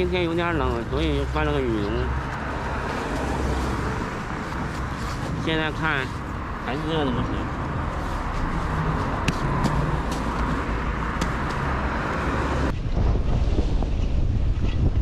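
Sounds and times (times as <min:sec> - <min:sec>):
wind rumbling on microphone: 0:00.0 - 0:06.9, 0:07.5 - 0:15.0
road and traffic noise: 0:00.0 - 0:15.0.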